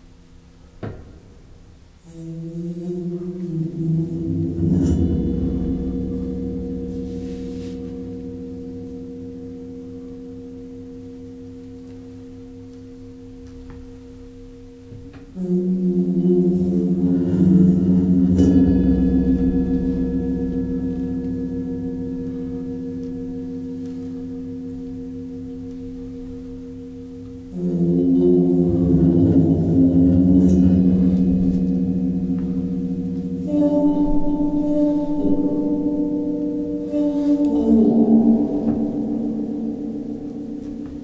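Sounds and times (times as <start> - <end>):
low gong-like sustained tones: 2.1 - 41.0.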